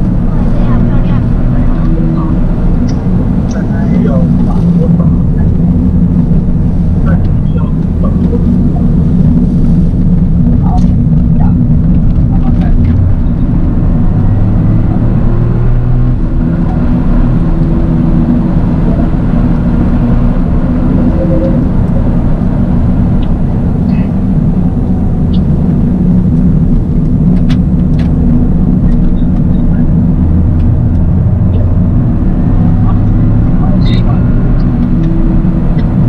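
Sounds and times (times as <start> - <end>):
car engine humming: 0.0 - 36.0
road noise: 0.0 - 36.0.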